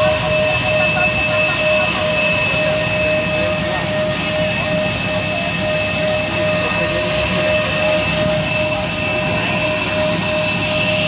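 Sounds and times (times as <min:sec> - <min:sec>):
constant rushing noise: 0:00.0 - 0:11.0
jet turbine whine: 0:00.0 - 0:11.0.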